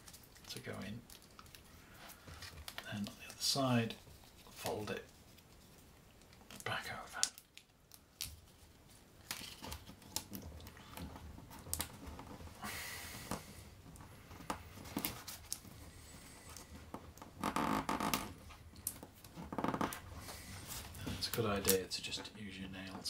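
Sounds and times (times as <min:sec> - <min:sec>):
card crinkling and rubbing: 0:00.0 - 0:12.5, 0:14.2 - 0:21.8.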